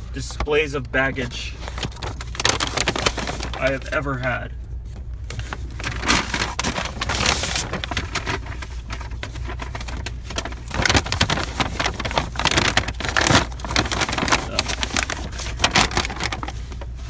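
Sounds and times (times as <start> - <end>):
grocery bag rustling and crinkling: 0.0 - 4.4, 5.2 - 17.0
steady low hum: 0.0 - 17.0.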